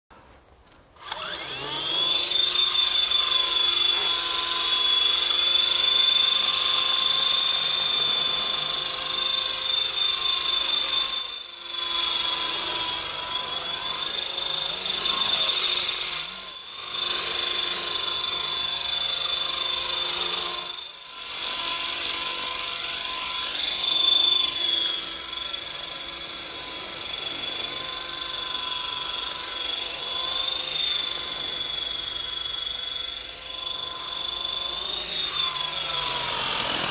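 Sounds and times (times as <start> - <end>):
model helicopter motor whine: 1.0 - 36.9.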